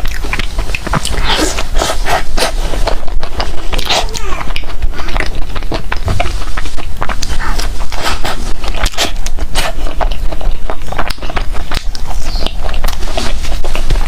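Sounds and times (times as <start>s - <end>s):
chewing bread: 0.0s - 14.0s
mouth clicks and crackles: 0.0s - 14.0s.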